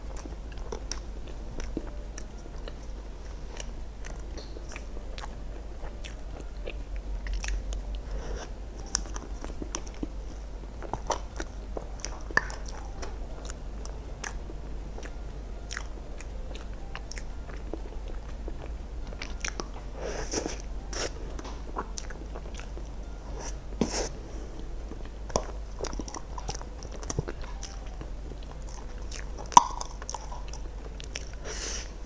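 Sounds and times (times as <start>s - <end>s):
person chewing: 0.1s - 10.1s, 10.8s - 32.0s.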